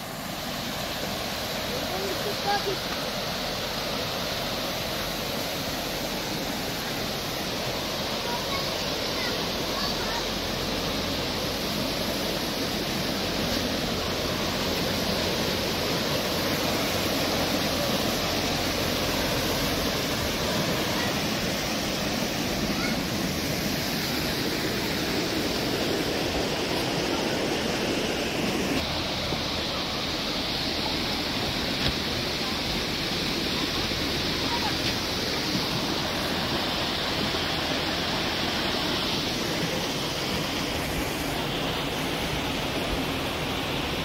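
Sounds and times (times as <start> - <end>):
creek water rushing over rocks: 0.0 - 44.0.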